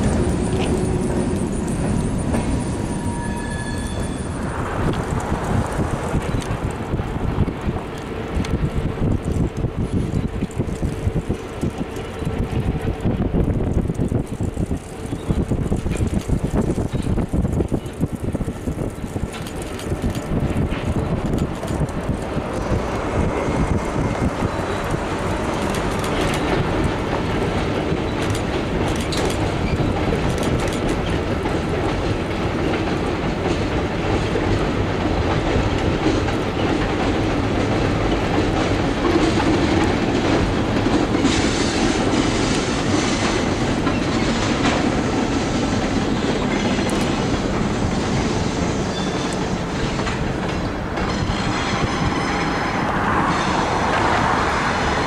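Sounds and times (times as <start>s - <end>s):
wheels clicking over rail joints: 0.0s - 2.9s, 4.4s - 55.0s
train wheels rolling: 0.0s - 55.0s.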